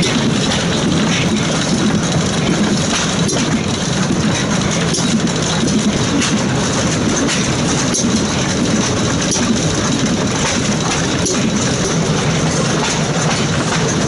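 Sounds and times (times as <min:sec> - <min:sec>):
stationary gas engine running: 0:00.0 - 0:14.0.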